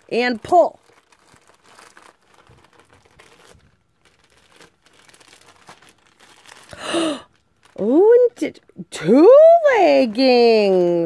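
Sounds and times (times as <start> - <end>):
gift wrapping crinkling: 0.0 - 8.8, 9.6 - 11.0.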